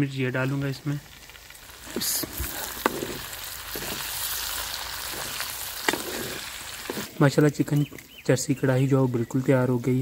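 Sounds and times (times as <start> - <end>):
chillies sizzling in hot oil: 0.0 - 10.0.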